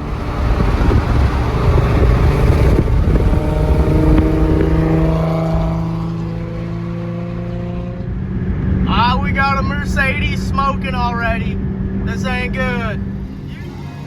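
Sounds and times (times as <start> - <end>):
car engine rough exhaust rumble: 0.0 - 14.0.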